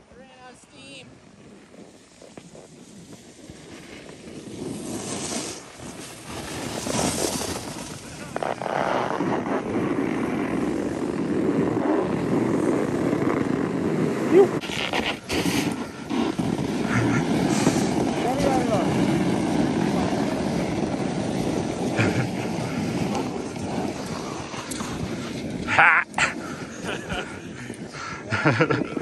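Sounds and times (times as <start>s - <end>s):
wind rumble on microphone: 0.0s - 29.0s
snowboard scraping on snow: 0.1s - 29.0s.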